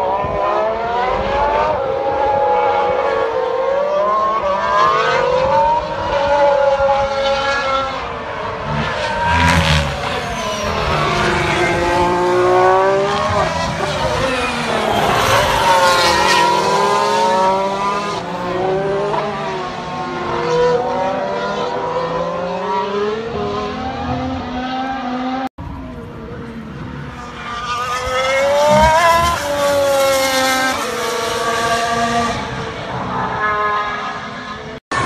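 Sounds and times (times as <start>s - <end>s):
racing cars passing at speed: 0.0s - 35.0s.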